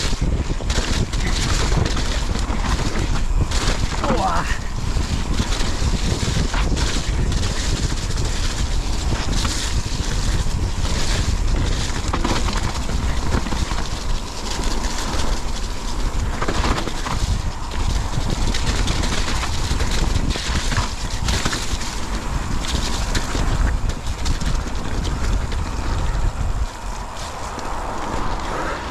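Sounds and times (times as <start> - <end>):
bike rattles and knocks: 0.0 - 28.9
bike tyres rolling on dirt: 0.0 - 28.9
wind rushing over microphone: 0.0 - 28.9.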